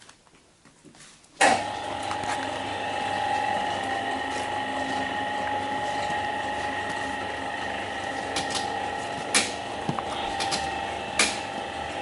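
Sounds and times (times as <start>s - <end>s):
electric pump motor whining: 1.4s - 12.0s.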